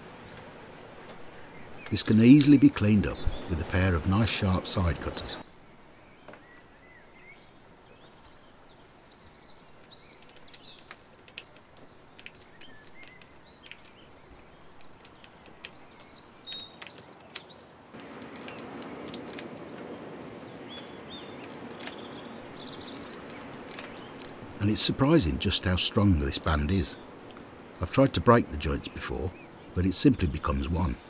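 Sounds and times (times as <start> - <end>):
birds chirping: 0.0 - 31.0
steady background hiss: 0.0 - 31.0.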